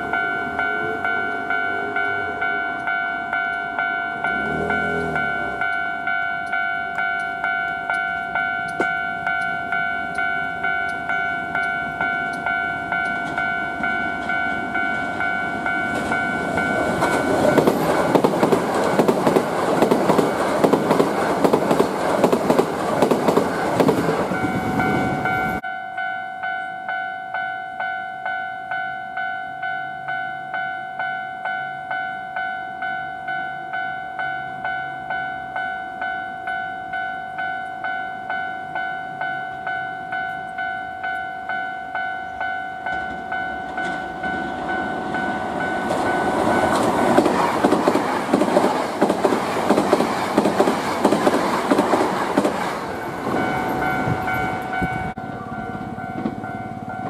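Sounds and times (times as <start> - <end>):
electric train running past: 0.0 - 57.0
railway warning bell ringing: 0.0 - 57.0.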